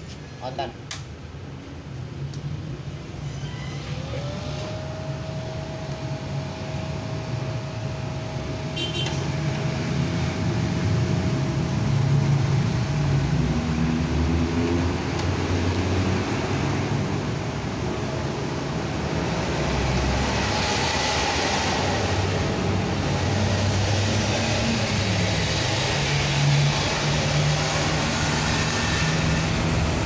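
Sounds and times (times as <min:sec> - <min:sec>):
cooling fan humming: 0:03.9 - 0:30.0.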